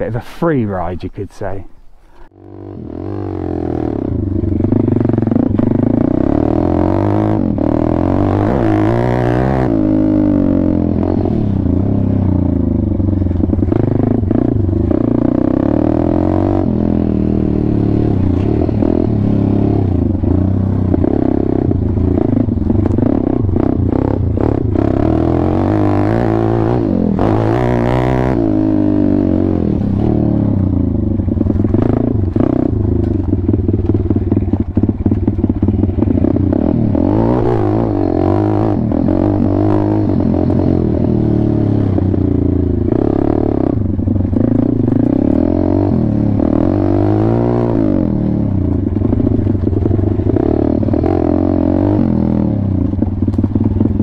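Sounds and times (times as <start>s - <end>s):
motorbike engine revving: 2.3s - 54.0s.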